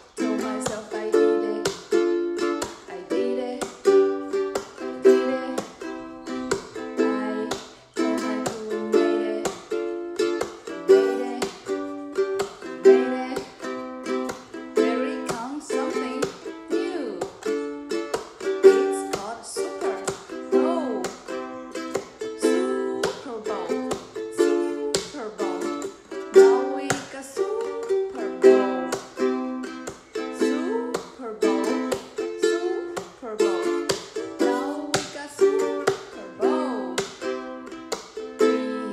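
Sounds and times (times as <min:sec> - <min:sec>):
woman singing: 0:00.0 - 0:37.4, 0:38.2 - 0:38.9
ukulele strumming: 0:00.0 - 0:38.9.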